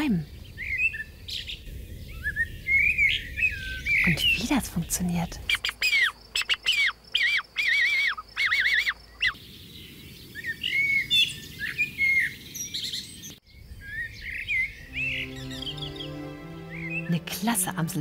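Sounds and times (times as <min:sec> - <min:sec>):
blackbird singing: 0:00.0 - 0:09.4, 0:10.4 - 0:17.8.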